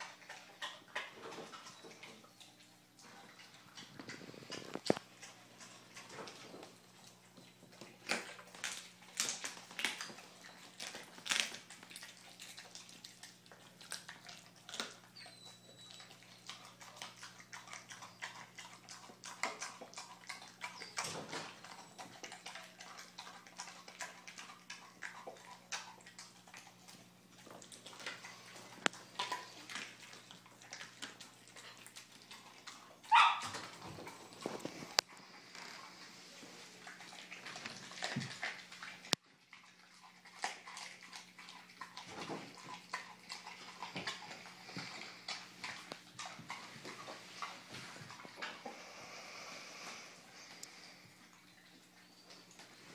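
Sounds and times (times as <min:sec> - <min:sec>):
dog chewing and tearing meat: 0:00.0 - 0:48.9.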